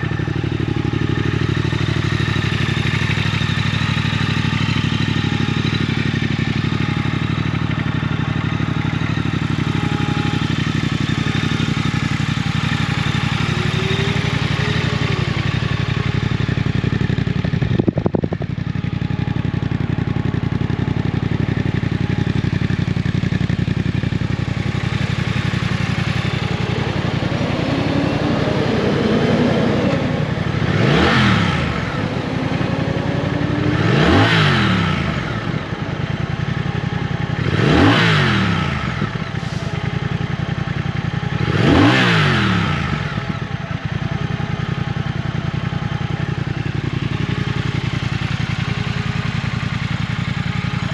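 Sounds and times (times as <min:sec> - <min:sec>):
engine revving: 0:00.0 - 0:18.4, 0:20.1 - 0:45.0
motorcycle engine idling: 0:00.0 - 0:50.9.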